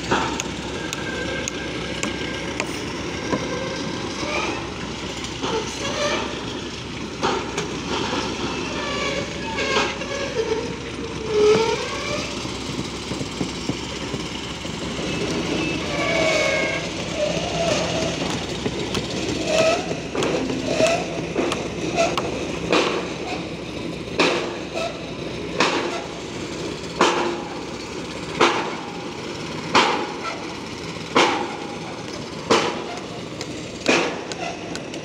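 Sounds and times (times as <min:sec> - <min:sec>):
diesel engines running: 0:00.0 - 0:35.0
machinery knocks and clanks: 0:00.0 - 0:35.0.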